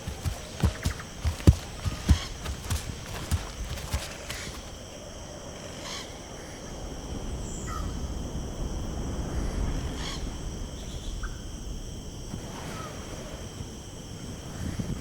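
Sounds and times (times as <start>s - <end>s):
high insect drone: 0.0s - 14.7s
low wind rumble: 0.0s - 15.0s.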